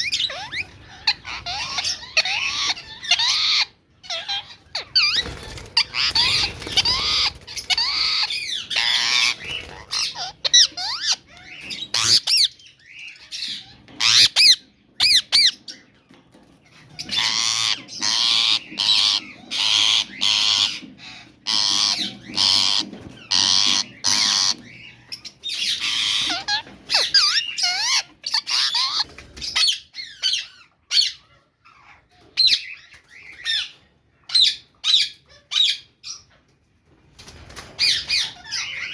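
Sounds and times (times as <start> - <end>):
bird chicks squawking: 0.0 - 36.6, 37.2 - 38.9.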